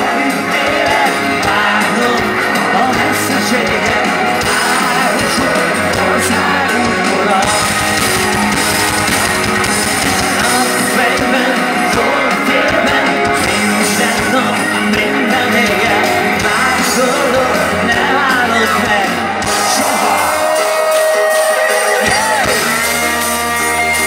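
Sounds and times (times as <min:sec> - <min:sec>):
electric guitar: 0:00.0 - 0:24.0
rock band playing live: 0:00.0 - 0:24.0.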